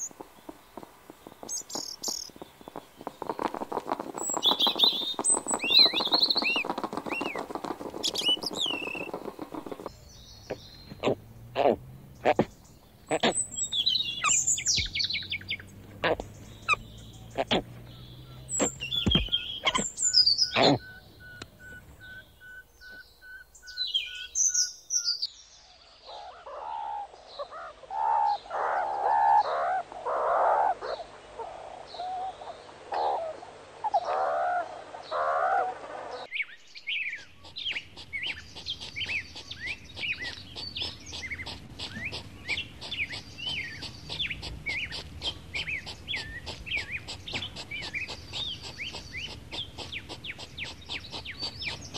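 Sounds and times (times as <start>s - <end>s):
small birds chirping: 0.0s - 51.9s
chattering animal calls: 1.3s - 22.6s, 26.1s - 36.3s, 37.4s - 51.9s.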